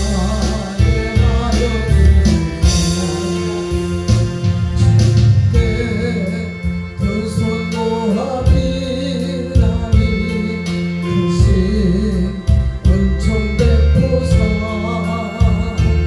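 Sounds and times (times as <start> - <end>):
person singing a hymn: 0.0 - 16.0
sustained instrumental accompaniment: 0.0 - 16.0.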